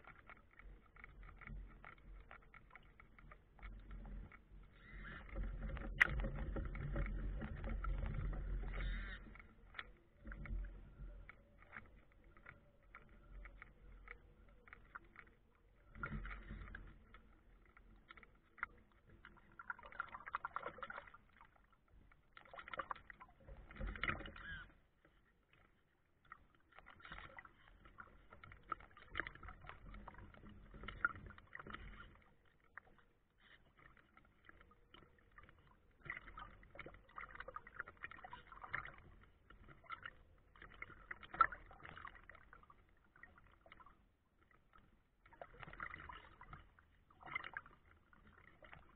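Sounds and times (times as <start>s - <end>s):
water splashing against boat hull: 0.0s - 48.9s.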